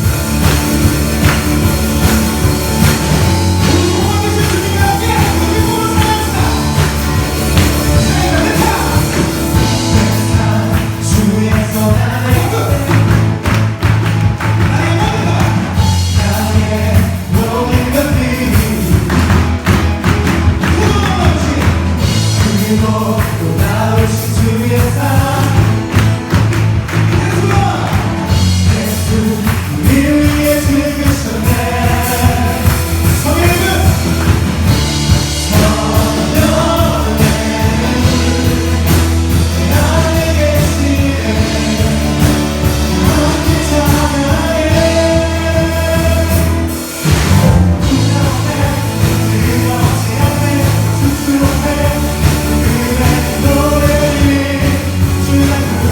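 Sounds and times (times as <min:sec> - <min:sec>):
bass: 0:00.0 - 0:55.9
steady drum beat: 0:00.0 - 0:55.9
voices singing: 0:01.2 - 0:19.7, 0:20.5 - 0:55.9.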